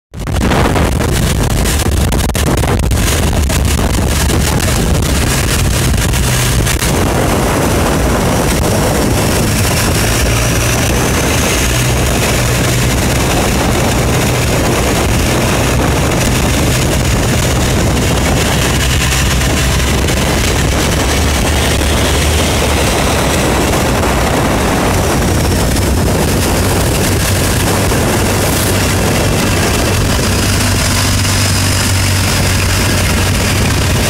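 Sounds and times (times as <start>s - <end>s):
boat engine drone: 0.1s - 34.0s
hull rushing through water: 0.1s - 34.0s
wind buffeting microphone: 0.1s - 34.0s.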